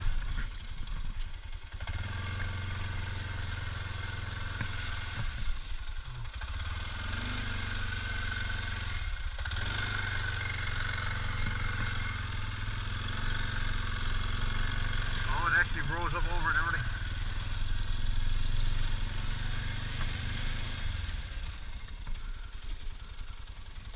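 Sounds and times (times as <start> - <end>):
atv engine running: 0.0 - 23.9.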